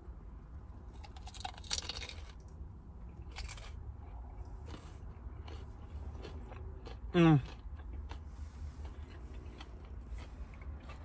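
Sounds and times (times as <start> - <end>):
crunchy chewing: 0.9 - 11.0.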